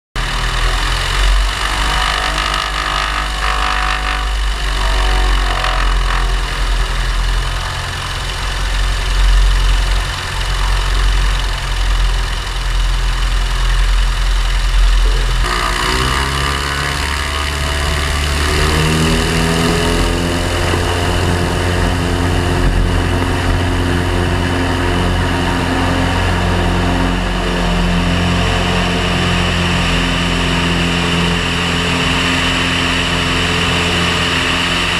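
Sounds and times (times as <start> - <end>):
aircraft piston engine and propeller: 0.2 - 34.9.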